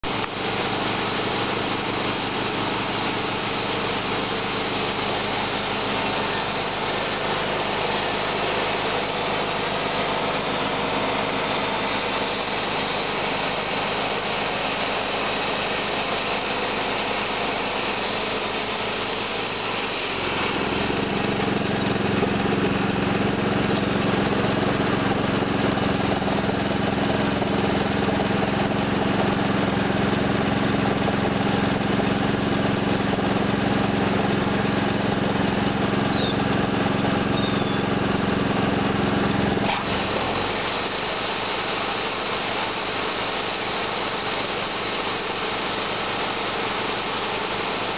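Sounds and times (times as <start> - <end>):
band sawmill sawing log: 0.0 - 47.9.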